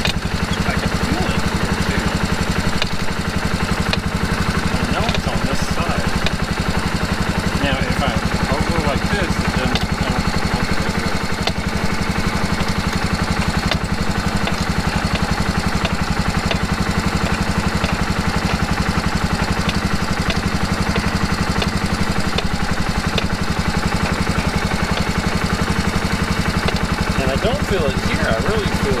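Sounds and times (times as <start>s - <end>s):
atv engine idling: 0.0s - 29.0s.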